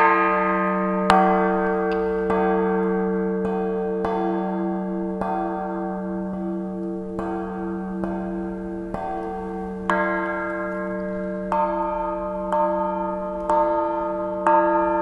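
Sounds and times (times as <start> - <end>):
church bell tolling: 0.0 - 15.0.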